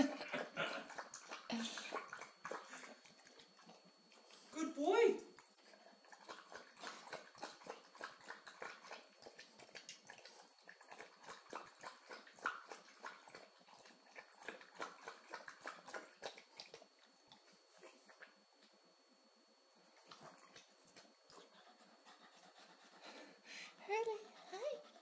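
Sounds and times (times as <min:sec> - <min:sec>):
dog lapping water: 0:00.0 - 0:04.5, 0:05.2 - 0:18.4, 0:20.0 - 0:23.0.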